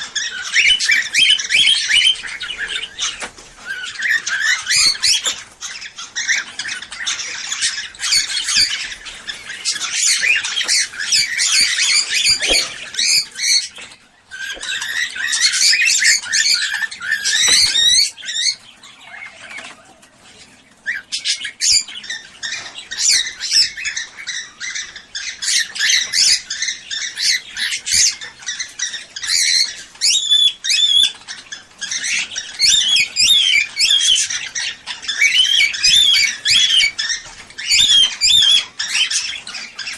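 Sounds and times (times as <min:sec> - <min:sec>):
cockatiels chattering and squawking: 0:00.0 - 0:39.9.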